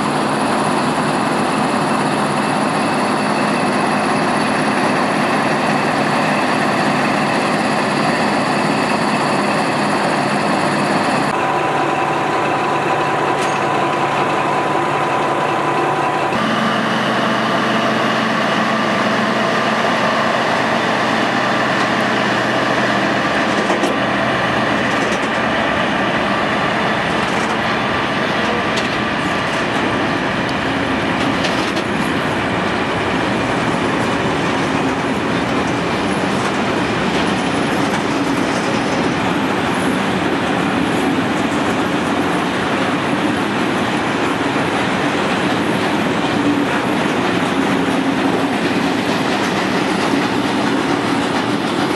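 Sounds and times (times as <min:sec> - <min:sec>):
diesel locomotive engine hum: 0:00.0 - 0:51.9.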